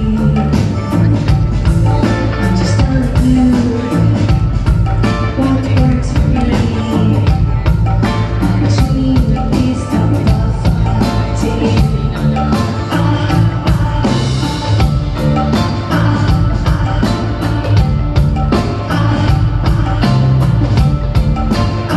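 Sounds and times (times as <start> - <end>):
drum kit beat: 0.0 - 21.9
live rock band playing: 0.0 - 21.9
woman singing: 0.0 - 21.9.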